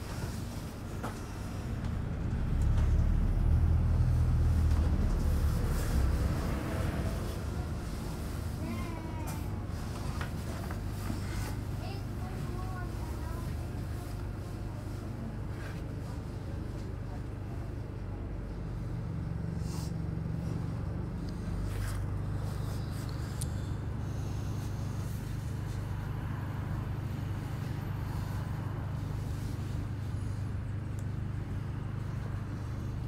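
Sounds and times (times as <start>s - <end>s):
bus engine drone: 0.0s - 33.0s.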